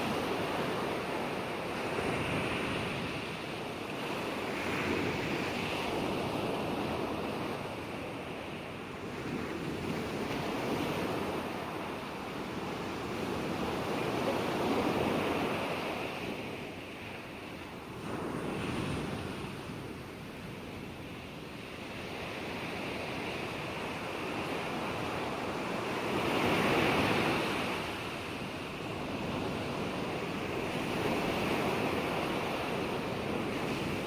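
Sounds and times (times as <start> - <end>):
ocean waves breaking: 0.0 - 34.0
wind: 0.0 - 34.0.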